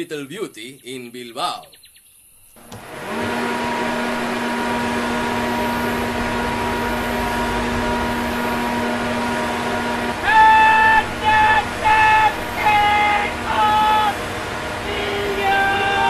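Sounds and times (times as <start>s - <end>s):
electric blower running: 2.6s - 16.0s
loud honking tone: 2.8s - 16.0s.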